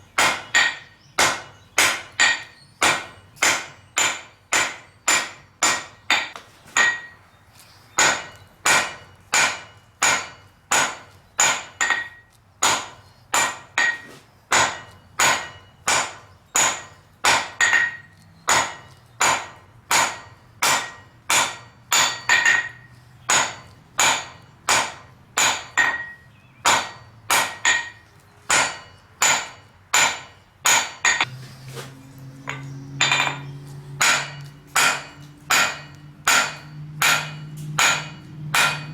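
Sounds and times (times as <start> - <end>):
hammer striking steel on anvil: 0.2 - 7.2, 8.0 - 38.9.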